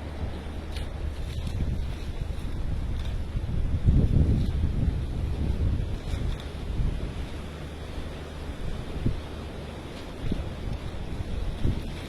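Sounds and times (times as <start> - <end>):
sea waves washing on beach: 0.0 - 12.0
wind rumbling on microphone: 0.0 - 12.0.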